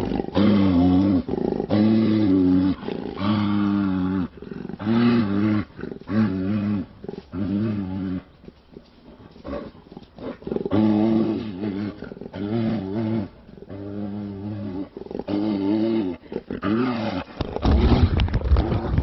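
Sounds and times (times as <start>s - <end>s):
bear growling and roaring: 0.0s - 19.0s.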